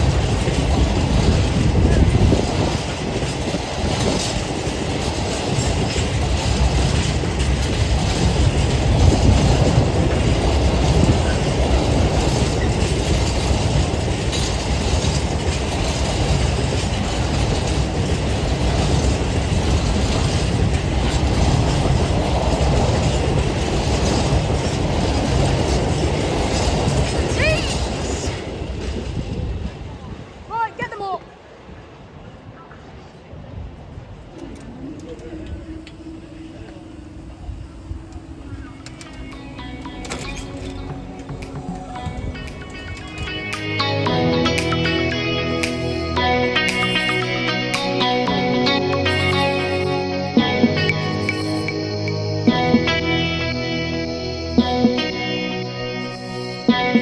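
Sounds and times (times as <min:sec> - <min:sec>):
freight train wagons rumbling: 0:00.0 - 0:57.0.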